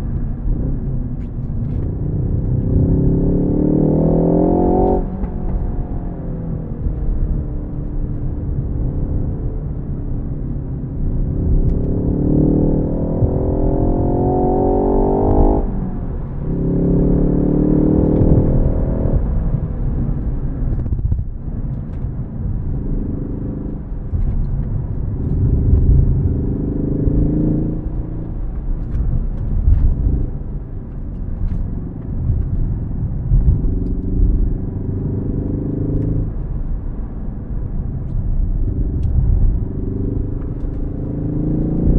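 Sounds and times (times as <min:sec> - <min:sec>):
car engine revving through gears: 0:00.0 - 0:20.9, 0:21.8 - 0:41.9
road and tyre noise: 0:00.0 - 0:41.9.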